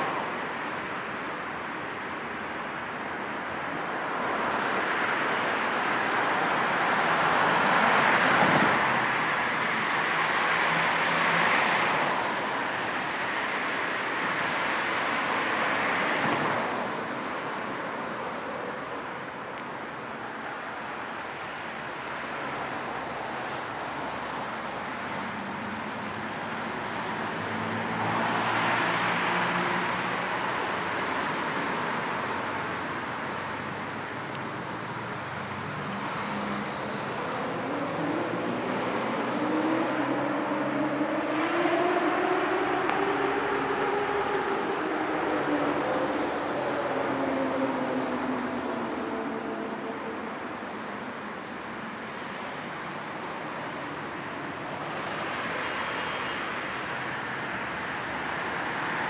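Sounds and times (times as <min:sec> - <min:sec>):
road traffic noise: 0:00.0 - 0:59.0
vehicles passing close: 0:03.6 - 0:59.0.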